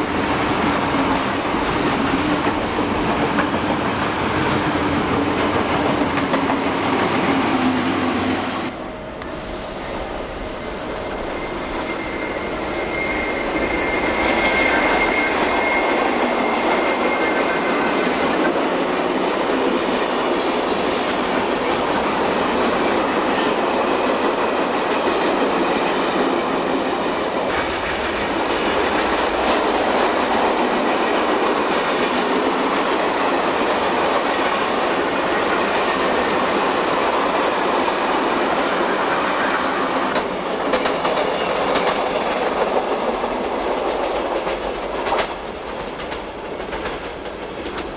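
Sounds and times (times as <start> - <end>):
train wheels rumbling and clattering: 0.0 - 47.9
wheels squealing on rails: 0.0 - 47.9.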